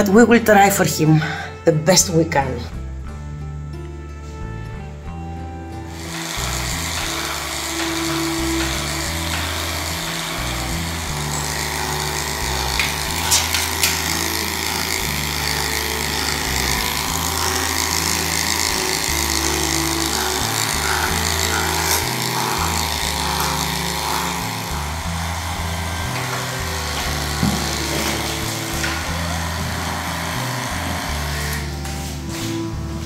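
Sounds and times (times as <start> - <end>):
music with low chords: 0.0 - 33.0
electric clippers buzzing: 5.8 - 32.9.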